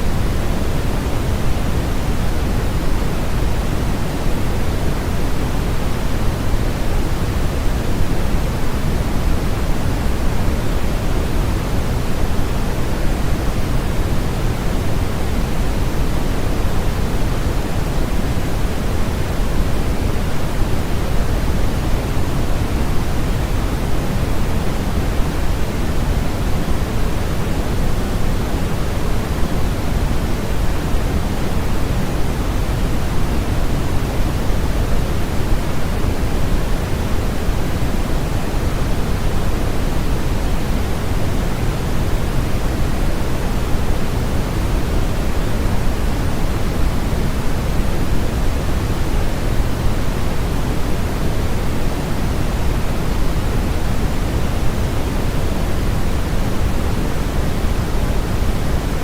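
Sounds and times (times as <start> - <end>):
steady generated noise hiss: 0.0 - 59.0.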